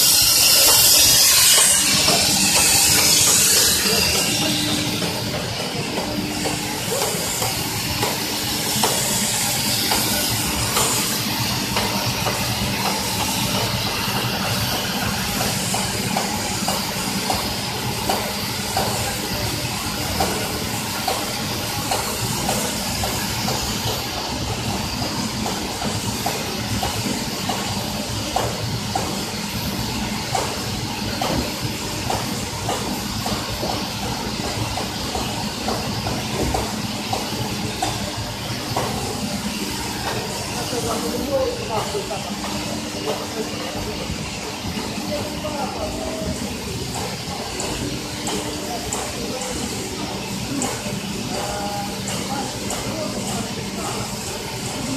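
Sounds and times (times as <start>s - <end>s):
casting machinery running: 0.0s - 54.9s
water hissing and splashing: 0.0s - 54.9s.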